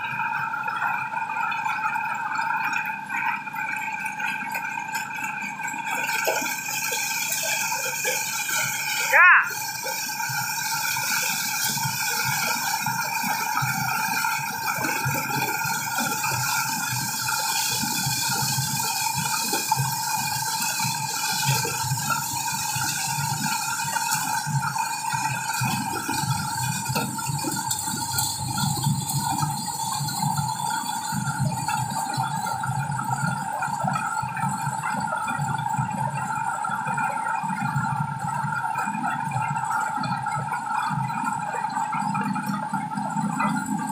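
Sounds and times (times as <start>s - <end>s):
corn sheller machine whining and rattling: 3.2s - 43.9s.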